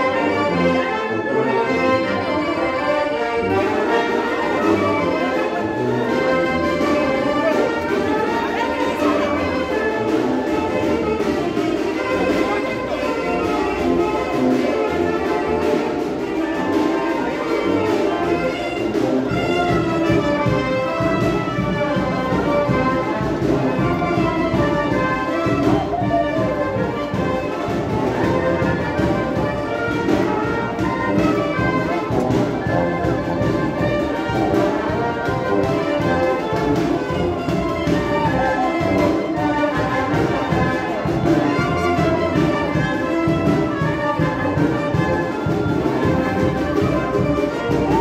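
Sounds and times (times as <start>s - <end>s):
brass band playing: 0.0s - 48.0s.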